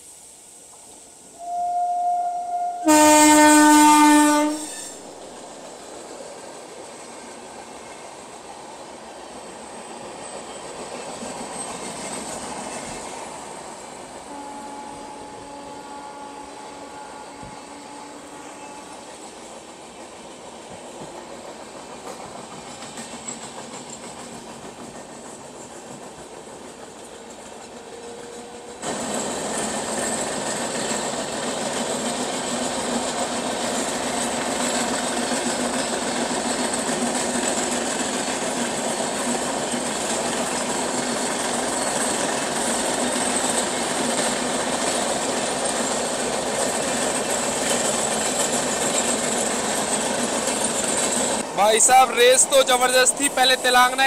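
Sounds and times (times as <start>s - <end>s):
train wheels clickety-clack: 2.9s - 14.3s, 18.8s - 54.0s.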